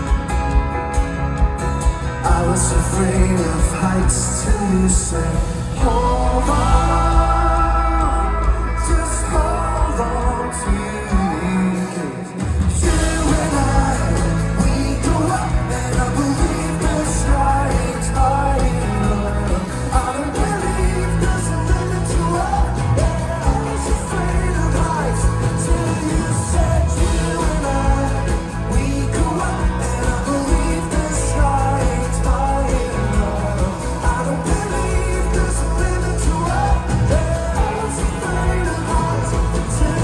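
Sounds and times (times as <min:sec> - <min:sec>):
folk-rock band with vocals: 0:00.0 - 0:40.0.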